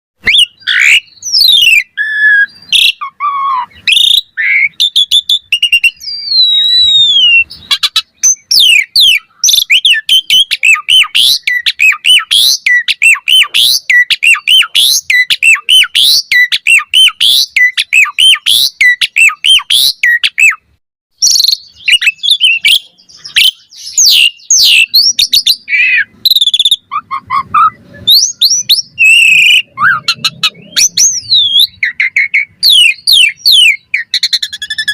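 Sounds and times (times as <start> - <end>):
starling singing varied whistles: 0.2 - 34.9.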